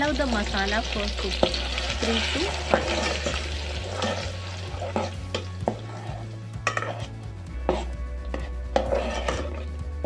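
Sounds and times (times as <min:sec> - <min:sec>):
spoon knocking and scraping pot: 0:01.3 - 0:09.9.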